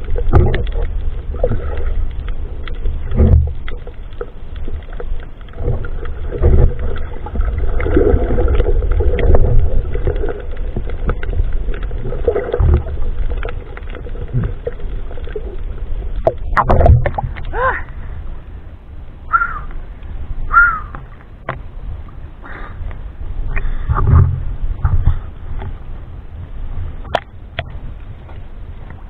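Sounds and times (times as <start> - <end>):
underwater water rumble and sloshing: 0.0 - 29.0.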